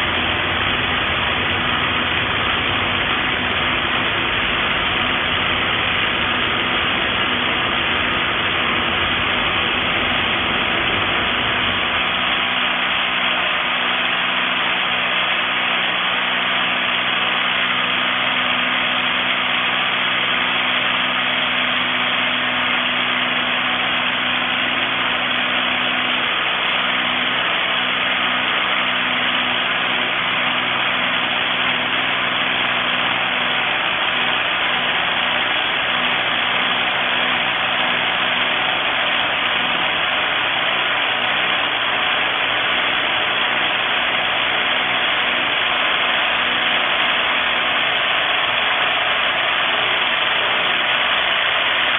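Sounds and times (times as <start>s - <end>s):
rotary hammer running: 0.0s - 51.9s.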